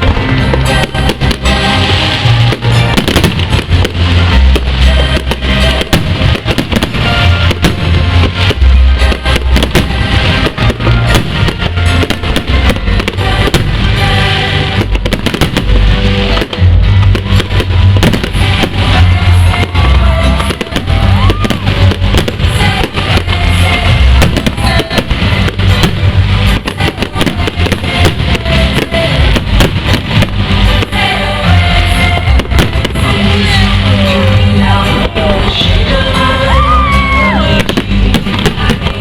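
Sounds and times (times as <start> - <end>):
fireworks bangs and crackles: 0.0 - 39.0
loud music with heavy bass: 0.0 - 39.0.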